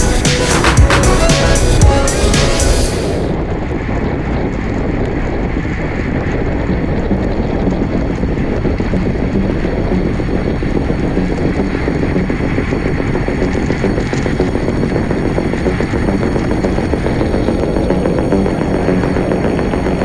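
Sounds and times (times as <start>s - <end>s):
wind buffeting microphone: 2.9s - 20.0s.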